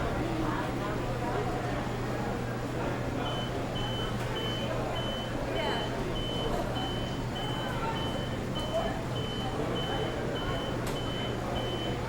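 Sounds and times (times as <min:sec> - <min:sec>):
low hum of kitchen equipment: 0:00.0 - 0:12.0.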